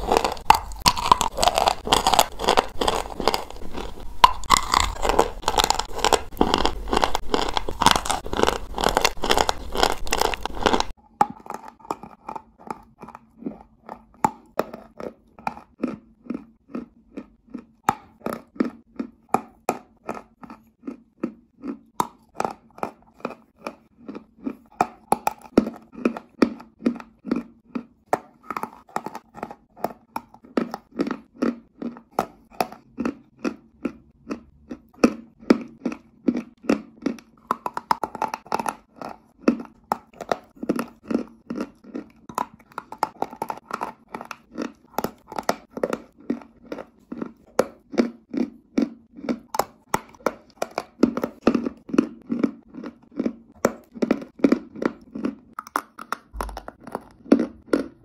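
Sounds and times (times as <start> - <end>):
chalk being chewed: 0.0 - 58.0.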